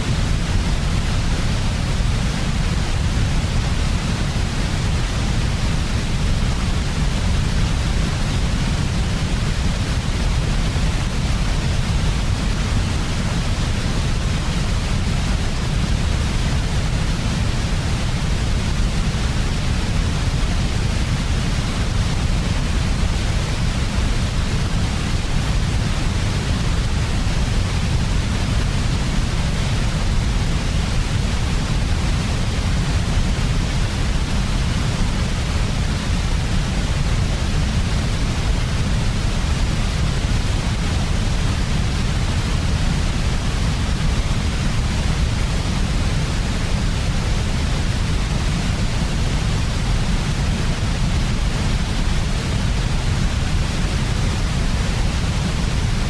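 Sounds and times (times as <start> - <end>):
white noise: 0.0 - 56.0.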